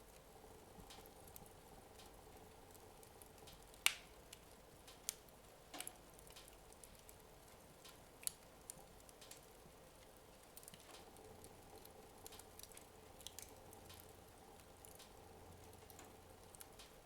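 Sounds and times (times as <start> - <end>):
sharp crack of fire: 0.0 - 17.0
wood fire crackling: 0.0 - 17.0.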